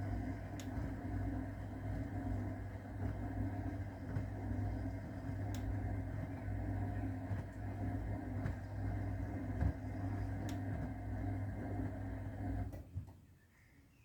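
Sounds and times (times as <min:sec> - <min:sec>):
washing machine humming: 0:00.0 - 0:13.3.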